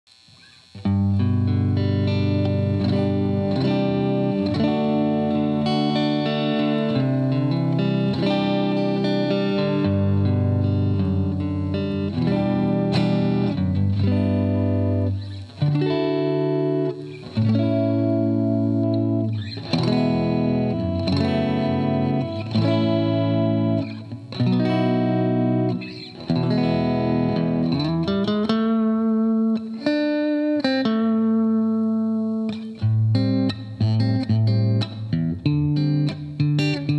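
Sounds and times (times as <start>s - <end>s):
electric guitar chords and notes: 0.1s - 36.9s.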